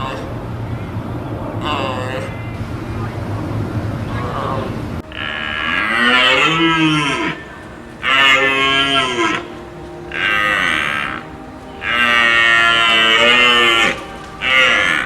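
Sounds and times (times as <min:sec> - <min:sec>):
large animal calling: 0:00.0 - 0:15.0.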